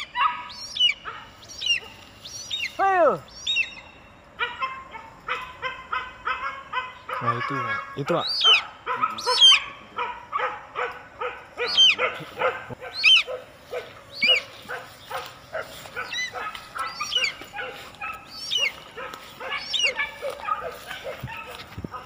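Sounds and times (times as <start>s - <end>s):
dog yelping high: 0.0s - 2.0s, 4.4s - 22.0s
hunting dogs barking rapidly: 0.0s - 22.0s.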